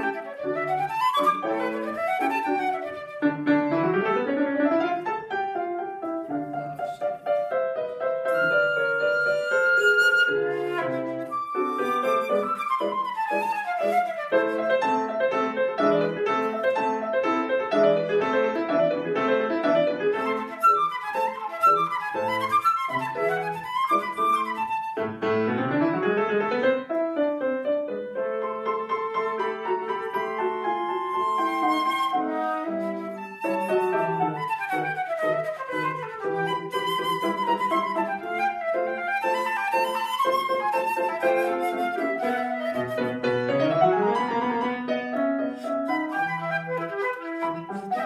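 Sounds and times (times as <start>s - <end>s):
flute playing: 0.0s - 17.4s, 18.0s - 26.5s, 28.4s - 48.0s
grand piano playing: 0.0s - 48.0s.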